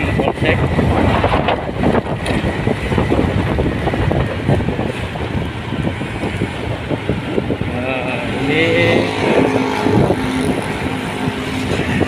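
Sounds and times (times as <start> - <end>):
vehicle engine and tyres rumbling: 0.0 - 12.0
wind buffeting microphone: 0.0 - 12.0.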